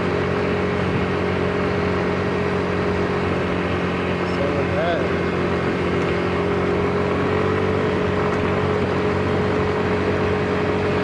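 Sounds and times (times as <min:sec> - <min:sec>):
small motorbike engine humming: 0:00.0 - 0:11.0
wind and road noise: 0:00.0 - 0:11.0.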